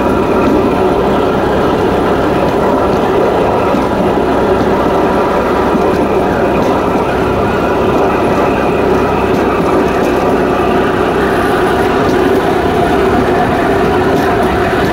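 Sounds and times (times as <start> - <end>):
rail vehicle running on track: 0.0 - 14.9.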